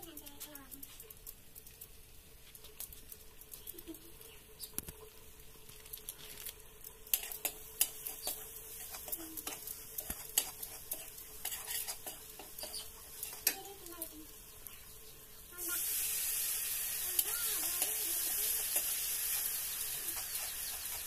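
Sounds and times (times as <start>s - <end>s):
light frying sizzle: 0.0s - 21.0s.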